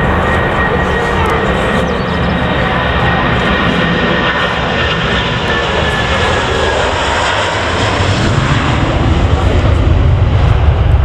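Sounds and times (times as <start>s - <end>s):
thin engine whine: 0.0s - 9.5s
jet engines running: 0.0s - 11.0s.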